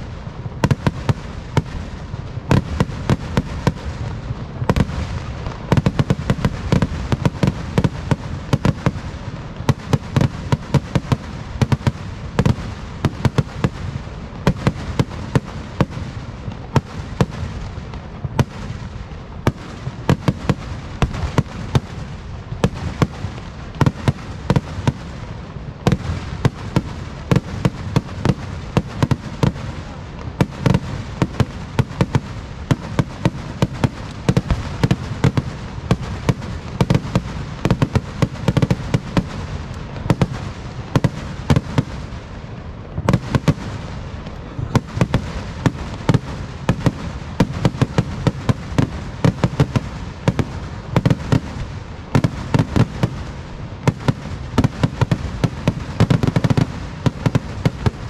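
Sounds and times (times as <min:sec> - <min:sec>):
firework bangs and cracks: 0:00.0 - 0:58.0.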